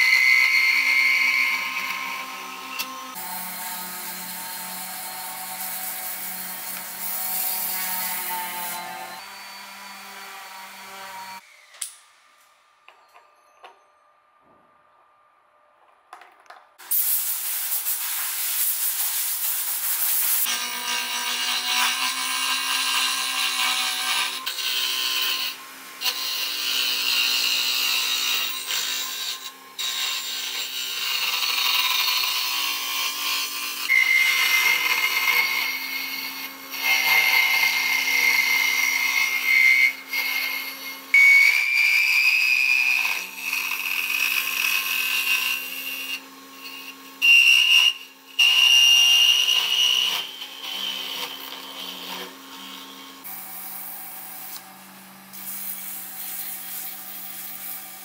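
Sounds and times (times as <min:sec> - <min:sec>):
cutter scraping wood: 0:00.0 - 0:12.5, 0:20.1 - 0:58.0.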